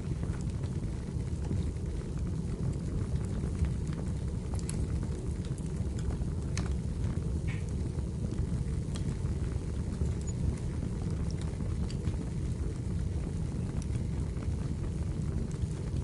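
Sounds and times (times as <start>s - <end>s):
fire flames rumbling: 0.0s - 16.0s
firewood crackling: 0.0s - 16.0s.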